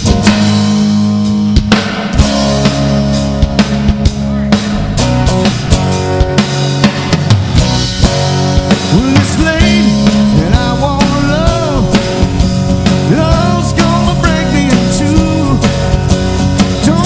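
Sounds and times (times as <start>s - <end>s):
drum kit beat: 0.0s - 17.0s
rock band playing: 0.0s - 17.0s.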